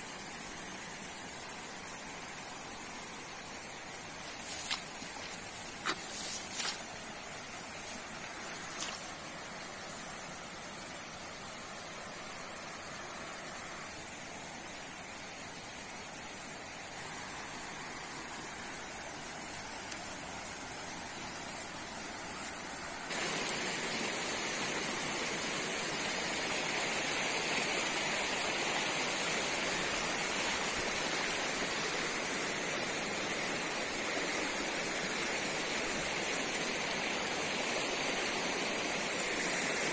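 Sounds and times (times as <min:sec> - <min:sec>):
high hiss: 0:00.0 - 0:39.9.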